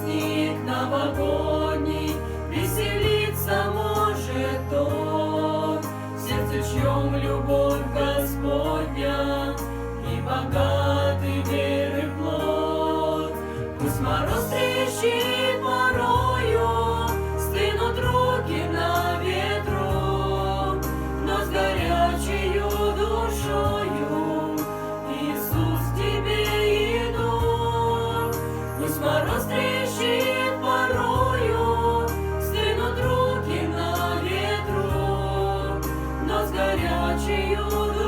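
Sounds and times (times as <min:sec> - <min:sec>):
held bass notes: 0:00.0 - 0:38.0
voices singing slow melody: 0:00.0 - 0:38.0.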